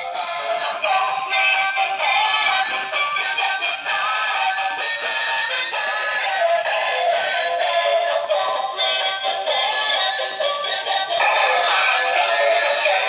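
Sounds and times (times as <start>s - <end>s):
toy electronic song: 0.0s - 13.0s.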